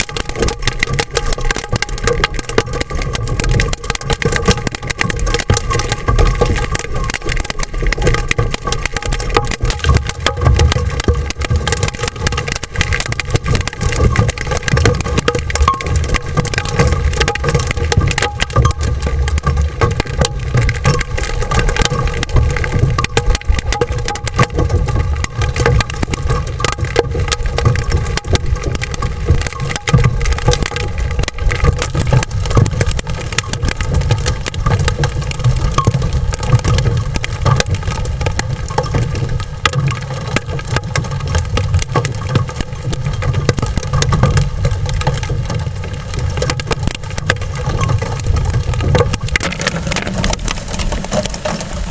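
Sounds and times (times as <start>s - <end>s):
hail clattering on vehicle roof: 0.0s - 51.9s
heavy rain: 0.0s - 51.9s.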